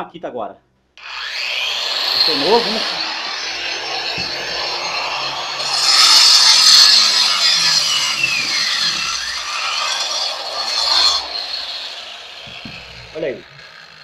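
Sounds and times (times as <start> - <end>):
diamond-blade saw cutting concrete: 1.0 - 14.0.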